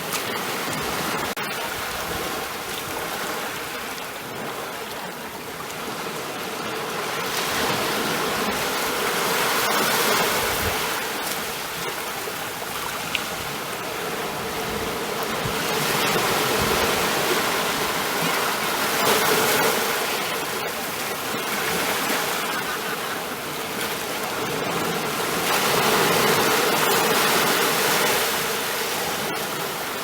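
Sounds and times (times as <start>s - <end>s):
ocean waves on shore: 0.0s - 30.0s.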